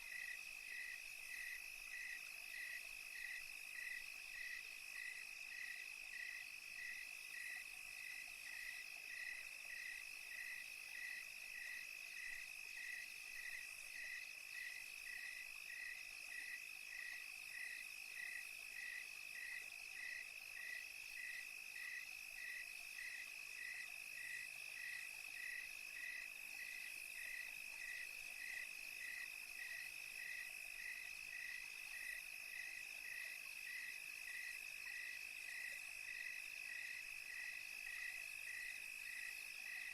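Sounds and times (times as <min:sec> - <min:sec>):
cricket chirping evenly: 0:00.0 - 0:39.9.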